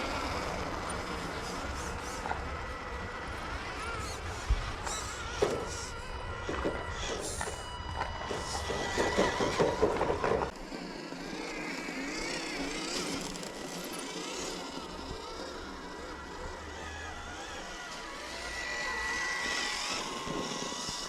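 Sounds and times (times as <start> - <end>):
rc car motor whining: 0.0 - 21.0.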